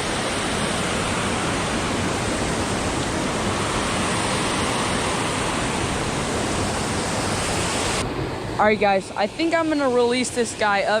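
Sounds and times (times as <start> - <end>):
waterfall and rapids roaring: 0.0 - 11.0.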